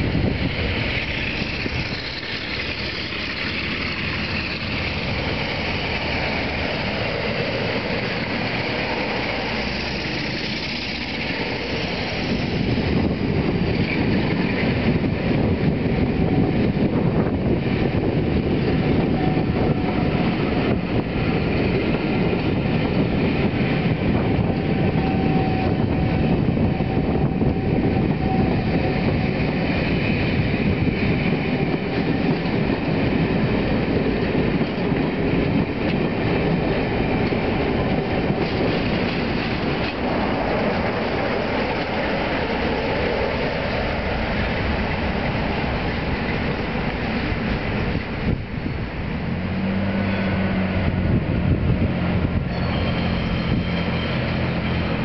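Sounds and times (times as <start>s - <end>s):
clack of rail joints: 0.0s - 55.0s
diesel locomotive engine running: 0.0s - 55.0s
train wheels rumbling on rails: 0.0s - 55.0s.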